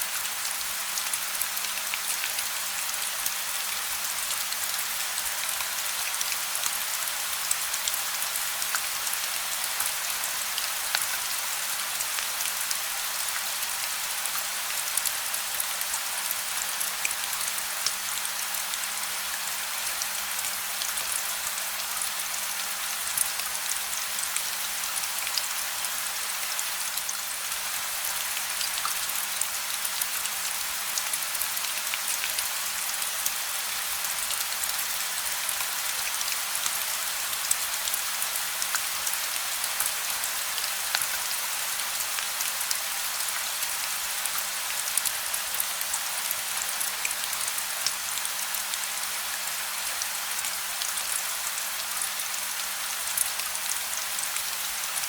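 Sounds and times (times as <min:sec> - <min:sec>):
gentle rain: 0:00.0 - 0:55.0
raindrops ticking on a surface: 0:00.2 - 0:55.0.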